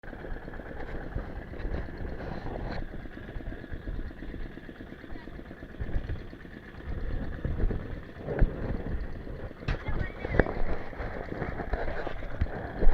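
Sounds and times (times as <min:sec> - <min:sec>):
boat engine pulsing rumble: 0:00.0 - 0:12.9.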